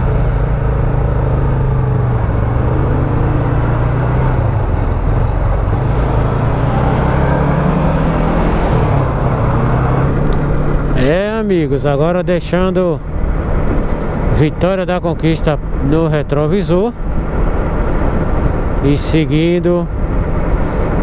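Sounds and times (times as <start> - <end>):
city traffic: 0.0 - 21.0.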